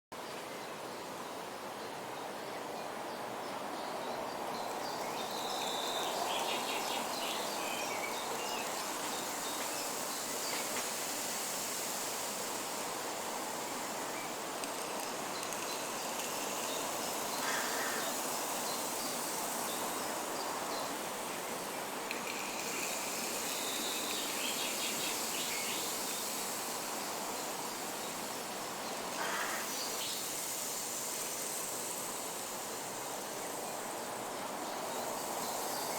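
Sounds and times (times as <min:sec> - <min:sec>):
insects trilling: 0:04.4 - 0:35.9
rain stick hiss: 0:04.5 - 0:35.9.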